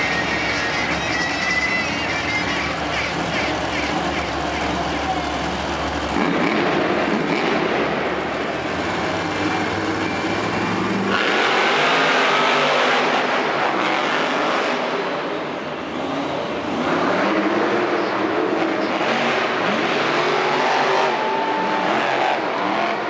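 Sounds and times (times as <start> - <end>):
monster truck engines revving: 0.0 - 23.0.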